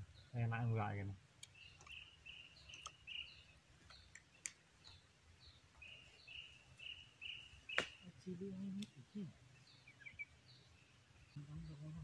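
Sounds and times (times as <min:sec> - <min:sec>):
faint bird chirps: 0:01.5 - 0:12.0.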